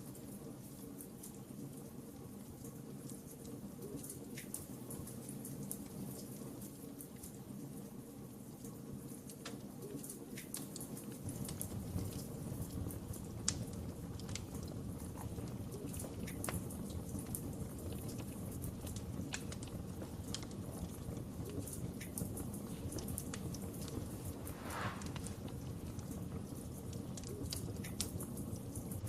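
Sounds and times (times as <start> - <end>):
low rumble of burning: 0.0 - 29.0
wood fire crackling: 0.0 - 29.0.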